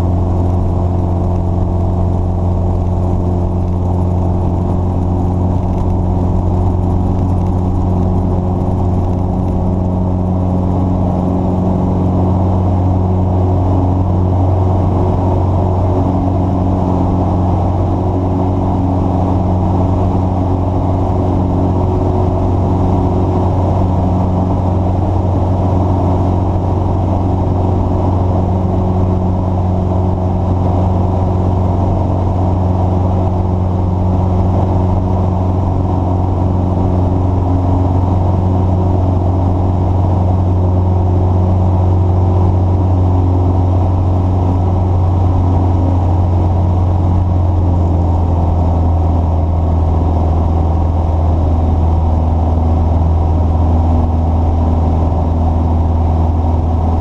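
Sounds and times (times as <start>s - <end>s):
large engine humming: 0.0s - 57.0s.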